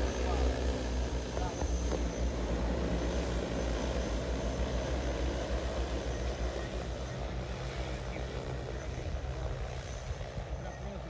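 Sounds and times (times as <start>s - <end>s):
drone rotors whirring: 0.0s - 11.0s.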